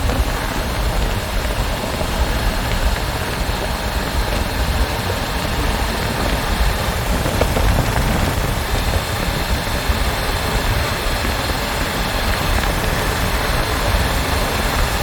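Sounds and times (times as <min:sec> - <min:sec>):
motorcycle running: 0:00.0 - 0:15.0.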